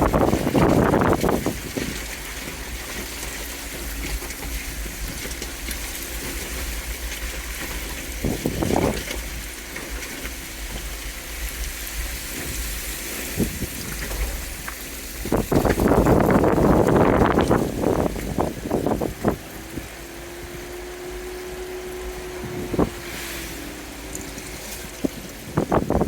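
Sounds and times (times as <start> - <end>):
water rushing and splashing: 0.0 - 26.0.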